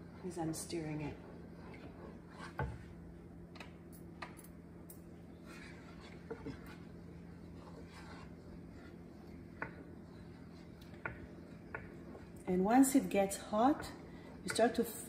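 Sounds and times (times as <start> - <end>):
wooden spoon scraping saucepan: 0.0 - 3.0, 5.3 - 15.0.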